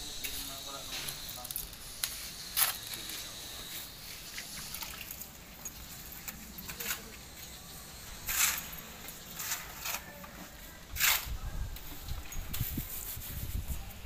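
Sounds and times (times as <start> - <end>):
tools scraping wet mortar: 0.1 - 13.9.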